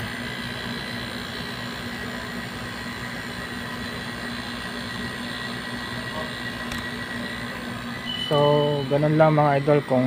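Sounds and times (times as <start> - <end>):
air conditioner humming and whirring: 0.0 - 10.0.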